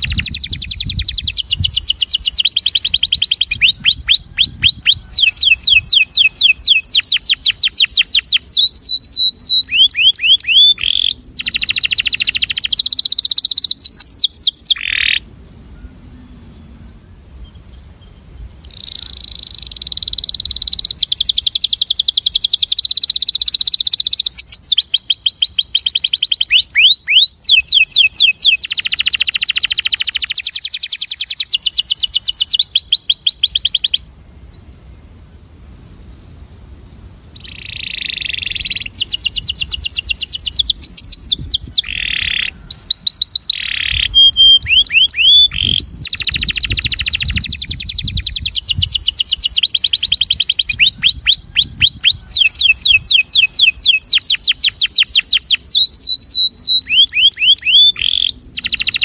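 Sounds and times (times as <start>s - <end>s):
canary singing trills: 0.0s - 15.2s, 17.5s - 34.7s, 37.4s - 59.0s.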